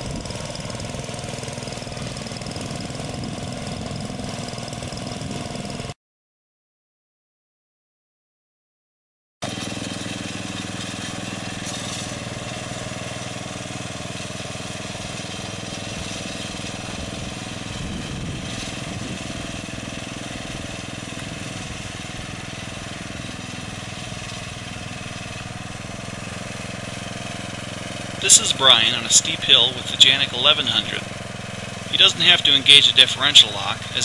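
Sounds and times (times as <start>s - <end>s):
small gasoline engine running: 0.0s - 6.0s, 9.4s - 34.0s.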